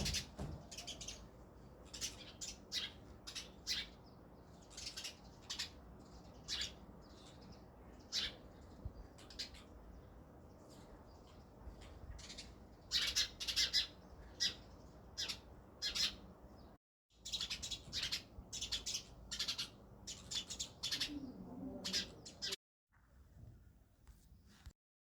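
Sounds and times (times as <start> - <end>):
sparrows chirping: 0.0 - 22.6.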